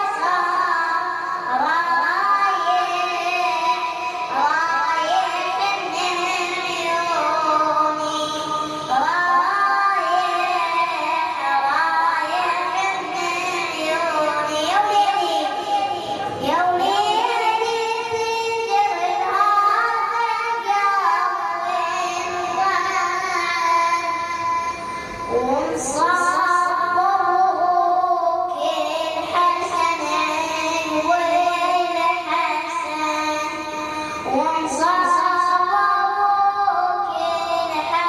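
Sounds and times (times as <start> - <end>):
boy singing a lament: 0.0 - 38.0.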